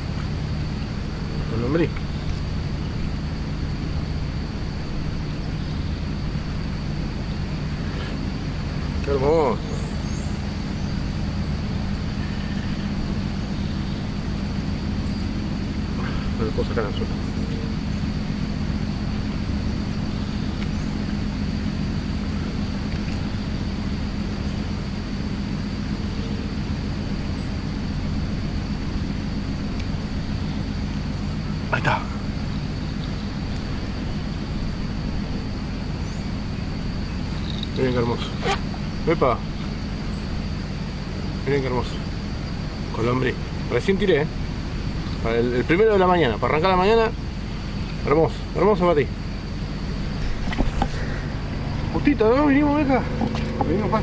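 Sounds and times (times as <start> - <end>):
engine running with low hum: 0.0 - 54.0.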